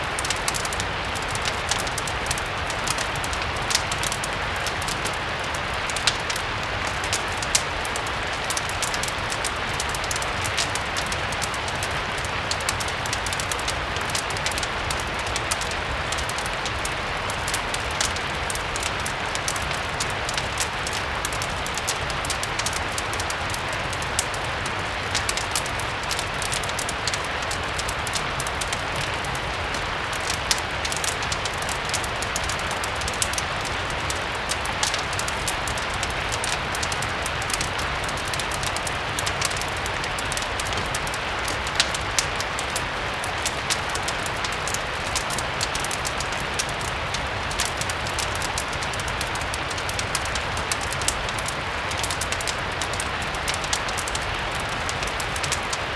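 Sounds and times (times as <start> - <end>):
steady rain hiss: 0.0 - 55.9
wood fire crackling: 0.0 - 55.9.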